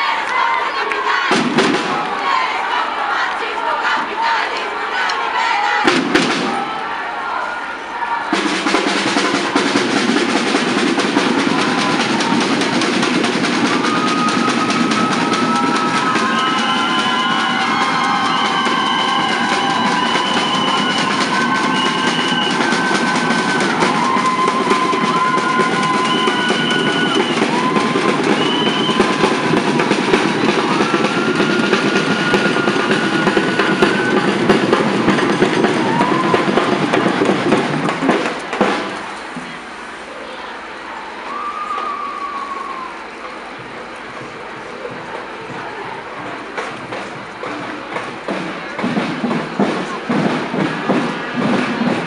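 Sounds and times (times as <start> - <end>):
drums playing dense rhythm: 1.3 - 2.0, 5.8 - 6.8, 8.3 - 39.8, 43.4 - 52.0.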